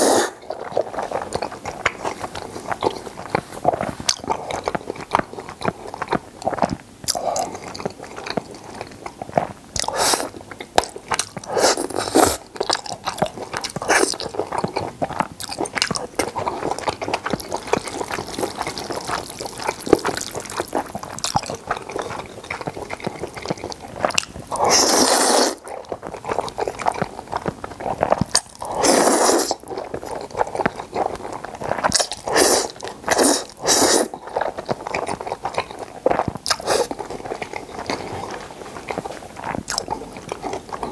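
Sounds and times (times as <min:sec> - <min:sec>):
slurping noodles: 0:00.0 - 0:06.0, 0:06.6 - 0:10.4, 0:11.1 - 0:40.9
wet chewing: 0:00.0 - 0:40.9.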